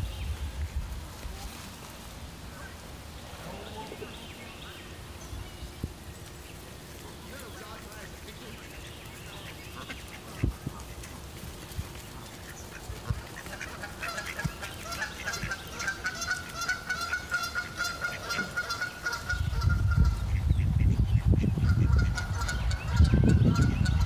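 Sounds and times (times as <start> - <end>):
birds calling: 1.8 - 24.0.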